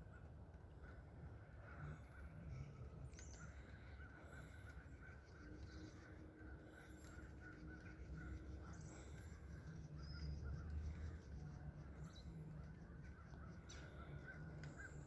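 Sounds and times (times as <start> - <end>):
wild birds chirping: 0.0 - 15.0.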